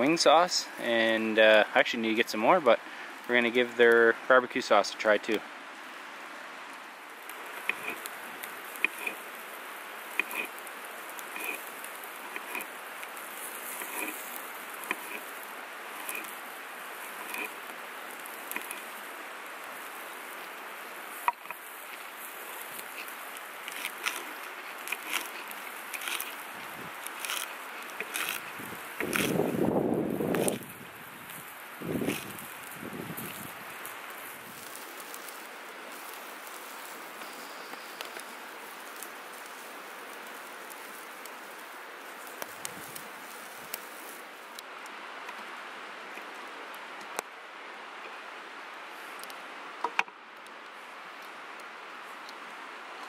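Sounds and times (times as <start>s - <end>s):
meat sizzling on grill: 0.0s - 44.6s
campfire crackles and pops: 0.0s - 53.0s
creek water rushing: 0.0s - 53.0s.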